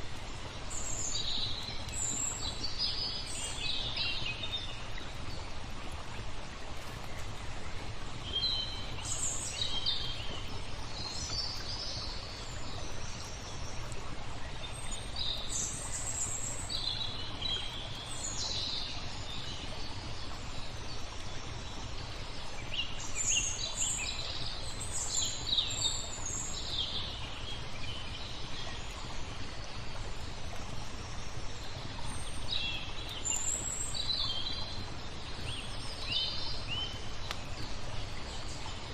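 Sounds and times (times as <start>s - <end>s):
flowing water: 0.0s - 38.9s
songbirds chirping: 0.0s - 38.9s.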